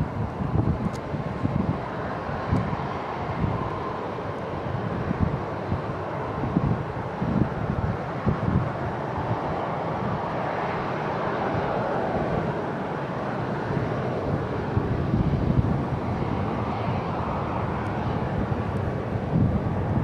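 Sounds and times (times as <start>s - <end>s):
distant jet engines humming: 0.0s - 20.0s
wind buffeting microphone: 0.0s - 20.0s.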